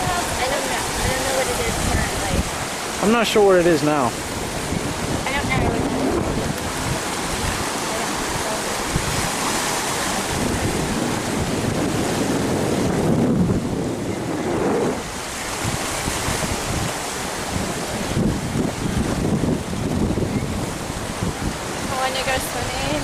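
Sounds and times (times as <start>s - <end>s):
surf washing over rocks: 0.0s - 23.0s
wind buffeting microphone: 0.0s - 23.0s.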